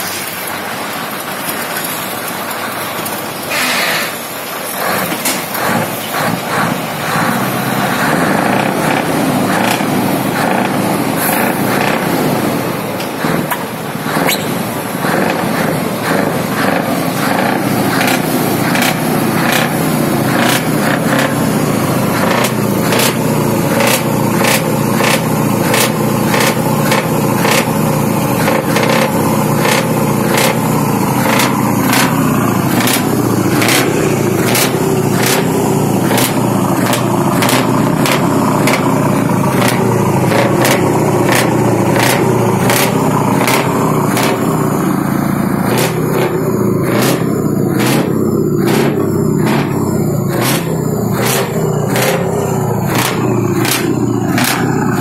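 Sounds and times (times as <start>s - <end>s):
diesel truck engine throbbing: 0.0s - 55.0s
sharp exhaust bursts: 0.0s - 55.0s.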